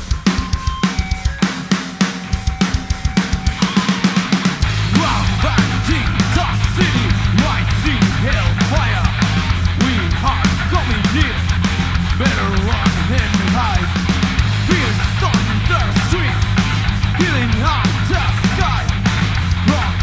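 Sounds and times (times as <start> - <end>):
distorted guitars and bass: 0.0 - 20.0
fast steady drumming: 0.0 - 20.0.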